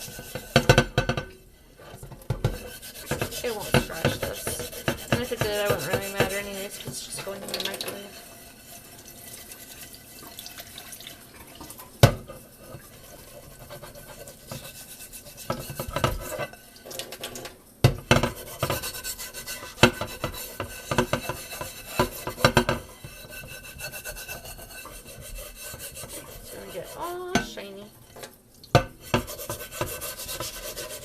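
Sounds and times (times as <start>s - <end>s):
scrubbing pad rubbing a plate: 0.0s - 1.2s, 1.8s - 10.5s, 12.2s - 16.6s, 18.1s - 27.7s, 29.0s - 31.0s.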